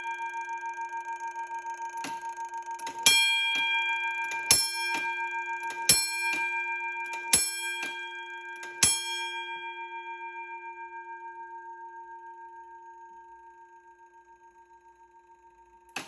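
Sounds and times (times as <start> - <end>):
fire alarm bell ringing: 0.0 - 16.0.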